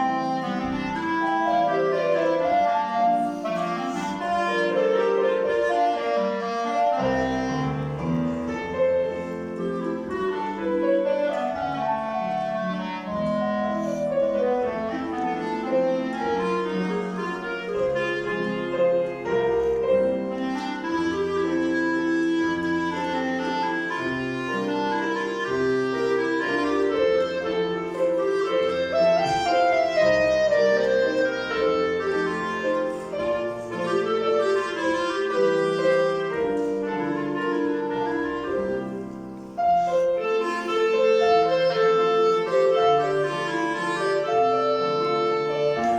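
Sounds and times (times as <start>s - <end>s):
piano accompaniment: 0.0s - 45.9s
woodwind melody: 0.0s - 45.9s.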